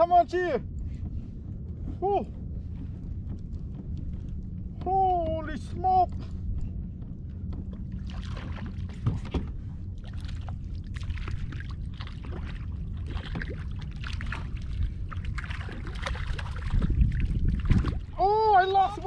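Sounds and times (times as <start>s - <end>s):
low wind rumble: 0.0s - 19.0s
water lapping around kayak: 0.0s - 19.0s.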